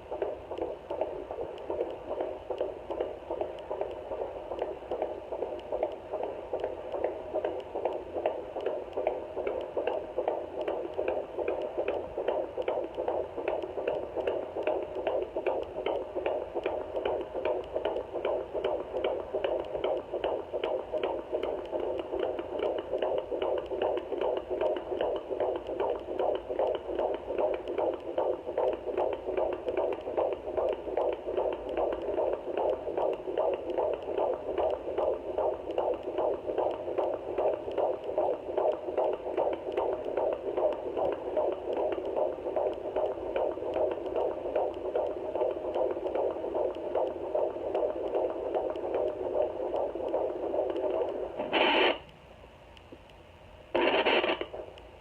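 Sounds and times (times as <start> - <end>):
fetal heartbeat whooshing on doppler: 0.0 - 52.0.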